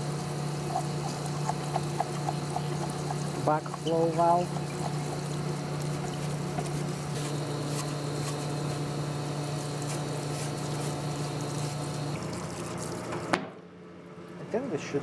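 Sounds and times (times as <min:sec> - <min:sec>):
solvent trickling over metal: 0:00.0 - 0:13.2
pump humming: 0:00.0 - 0:13.4.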